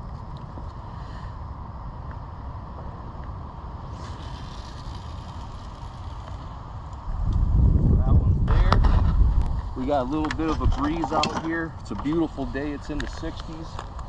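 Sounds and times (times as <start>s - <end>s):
low outdoor rumble: 0.0s - 14.0s
breeze hissing: 0.6s - 14.0s.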